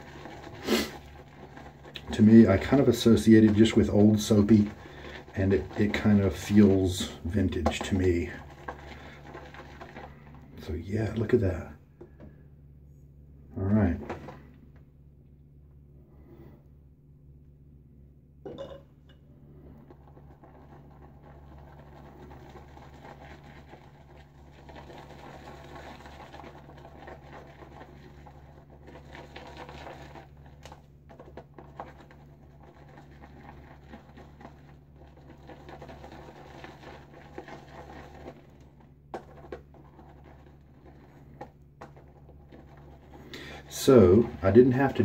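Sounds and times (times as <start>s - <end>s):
shaving brush whisking lather: 0.0s - 11.4s, 19.9s - 45.0s.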